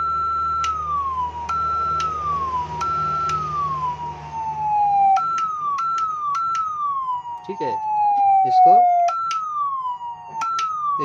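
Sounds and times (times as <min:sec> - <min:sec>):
electronic siren horn tone: 0:00.0 - 0:11.0
low hum: 0:00.0 - 0:11.0.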